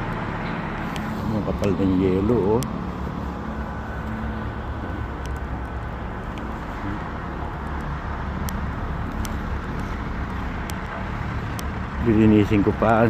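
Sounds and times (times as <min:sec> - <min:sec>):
snow-clearing machine engine rumble: 0:00.0 - 0:13.0.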